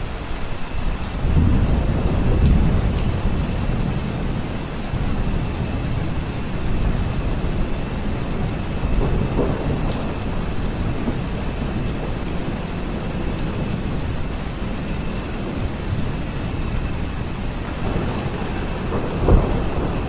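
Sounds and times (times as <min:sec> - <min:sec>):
steady rain falling: 0:00.0 - 0:20.0
low rumble of thunder: 0:00.5 - 0:20.0.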